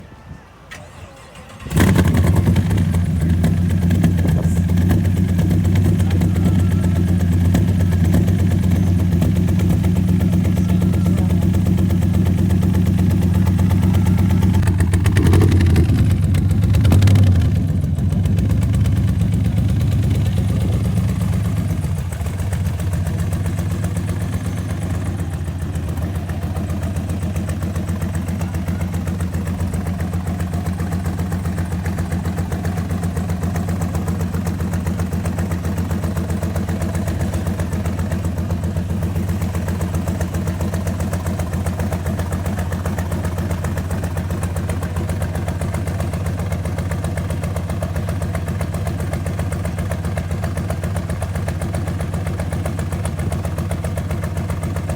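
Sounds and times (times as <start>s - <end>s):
car engine revving and idling: 0.8s - 54.9s.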